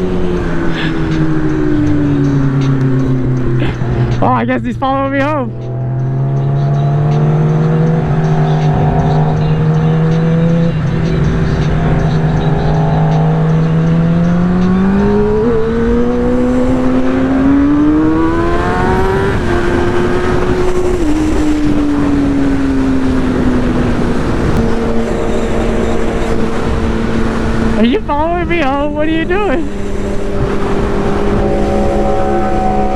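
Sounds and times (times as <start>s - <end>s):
motorcycle engine revving: 0.0s - 4.5s, 5.1s - 27.9s, 29.3s - 32.9s.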